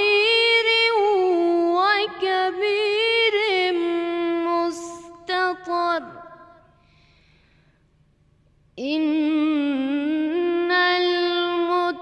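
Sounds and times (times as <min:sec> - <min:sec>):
woman reciting melodically: 0:00.0 - 0:06.6, 0:08.8 - 0:12.0.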